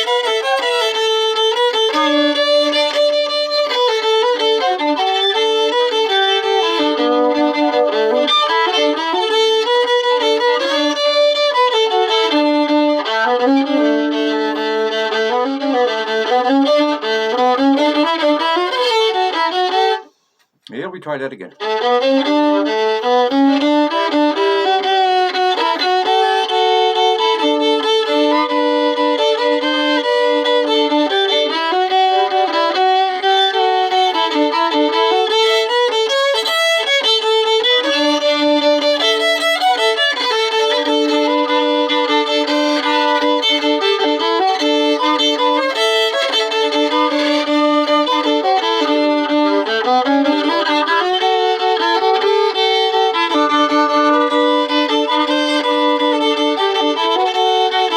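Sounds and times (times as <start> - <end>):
solo fiddle with double stops: 0.0 - 57.9.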